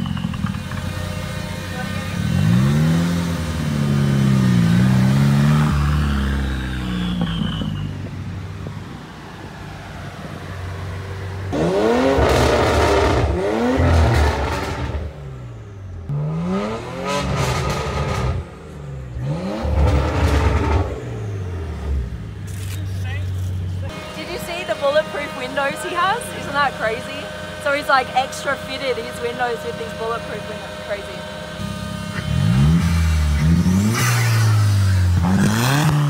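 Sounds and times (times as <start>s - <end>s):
engine revving in sharp blips: 0.0s - 8.1s, 11.5s - 22.8s, 23.9s - 36.0s
car engine running: 0.0s - 36.0s.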